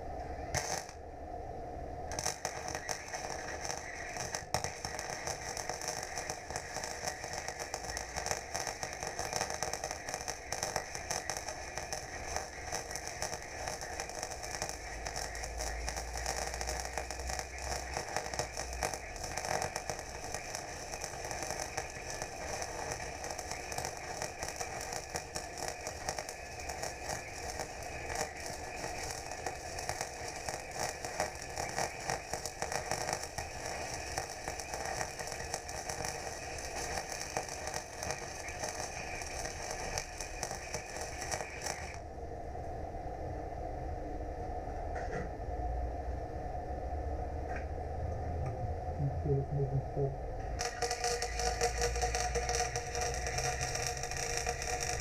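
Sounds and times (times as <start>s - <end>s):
welding arc crackling: 0.0s - 1.0s, 2.1s - 42.1s, 50.6s - 55.0s.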